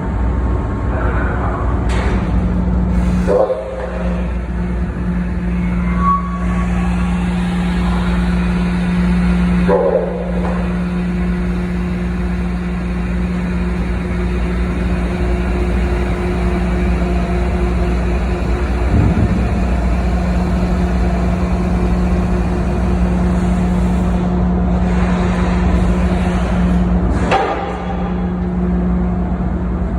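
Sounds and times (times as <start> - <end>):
ferry engine drone: 0.0 - 29.9.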